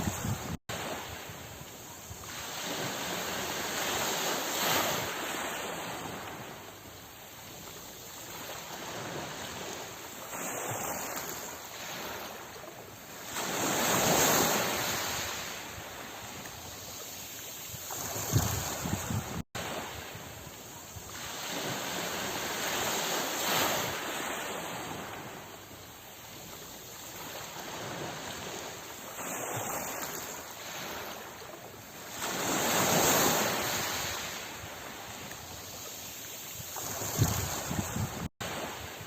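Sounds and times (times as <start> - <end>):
sea waves washing on shore: 0.0 - 39.0.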